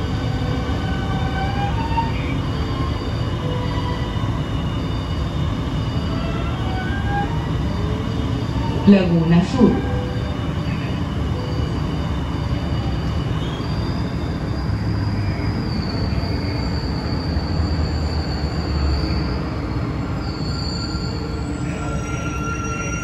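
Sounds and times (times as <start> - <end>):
high brake squeal: 0.0 - 23.0
train running gear rumble: 0.0 - 23.0.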